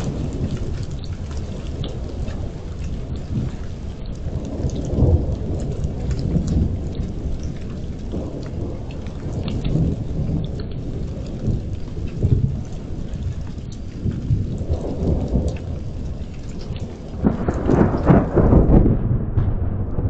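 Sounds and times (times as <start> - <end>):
raindrops ticking: 0.0 - 20.0
rolling thunder: 0.0 - 20.0
steady rain: 0.0 - 20.0.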